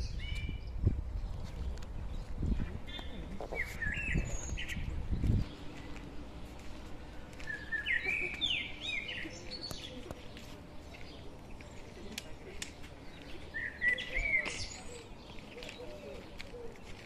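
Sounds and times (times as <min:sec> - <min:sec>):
faint outdoor background noise: 0:00.0 - 0:17.0
songbird singing: 0:00.0 - 0:17.0.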